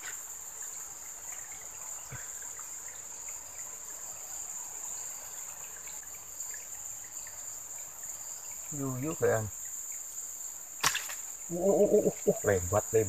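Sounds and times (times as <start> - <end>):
insect chorus: 0.0 - 13.0
water trickling: 0.0 - 13.0.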